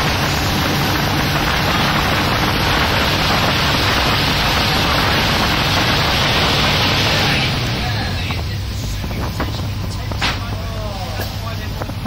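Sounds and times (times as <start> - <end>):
boat engine drone: 0.0 - 12.0
water rushing: 0.0 - 12.0
wind: 0.0 - 12.0.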